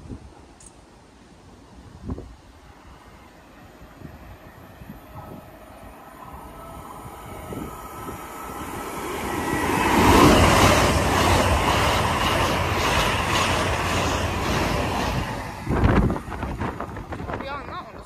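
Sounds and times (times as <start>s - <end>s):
high-speed train passing: 0.0s - 18.0s.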